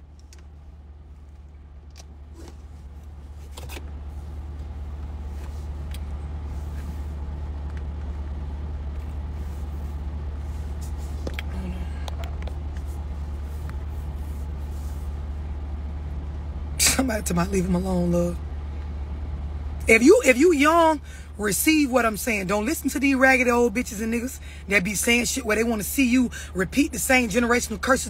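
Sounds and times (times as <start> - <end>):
car cabin engine hum: 0.0 - 28.0.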